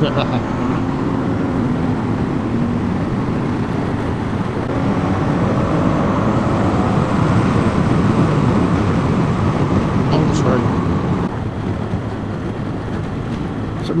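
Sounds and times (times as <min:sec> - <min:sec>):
motorcycle engine: 0:00.0 - 0:14.0
wind rush in helmet: 0:00.0 - 0:14.0.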